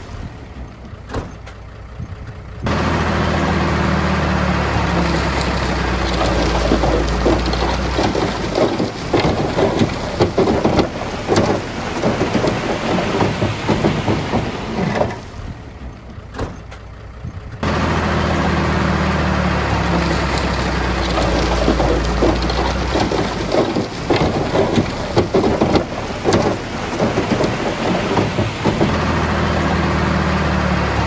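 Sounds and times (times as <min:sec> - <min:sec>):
diesel engine running: 0:00.0 - 0:31.0
rock and soil clattering: 0:02.7 - 0:16.8, 0:17.6 - 0:31.0.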